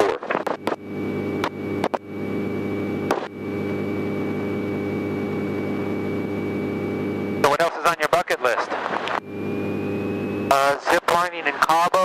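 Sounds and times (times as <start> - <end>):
airplane engine from cockpit: 0.0 - 12.0.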